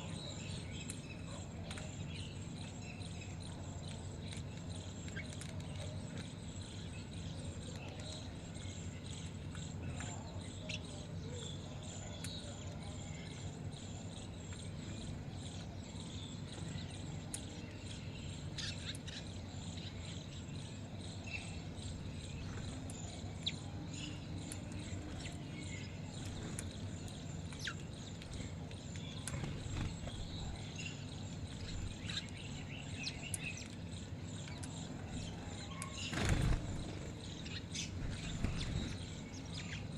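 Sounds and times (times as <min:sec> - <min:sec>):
low background hum: 0:00.0 - 0:39.9
small birds chirping: 0:00.0 - 0:39.9.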